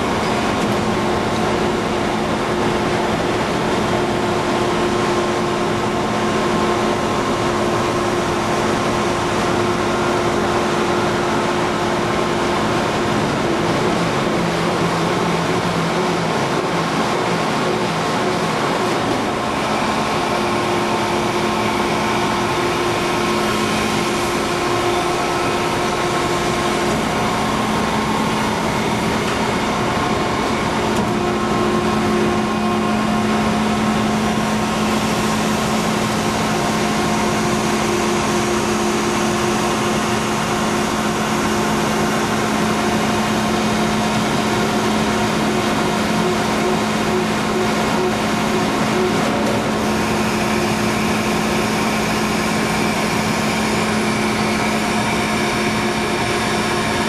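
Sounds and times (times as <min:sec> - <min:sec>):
hydraulic pump motor humming: 0:00.0 - 0:57.0.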